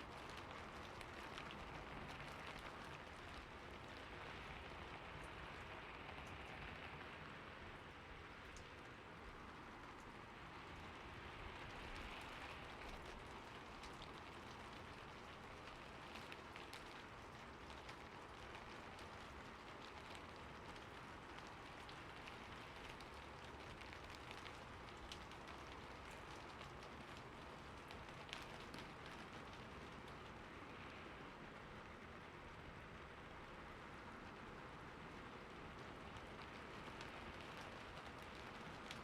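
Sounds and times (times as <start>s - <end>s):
rain drops pattering: 0.0s - 39.0s.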